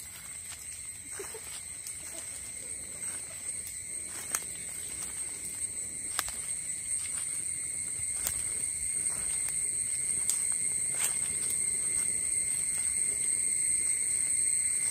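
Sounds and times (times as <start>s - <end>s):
fire crackling: 0.0s - 14.9s
insects droning: 0.0s - 14.9s.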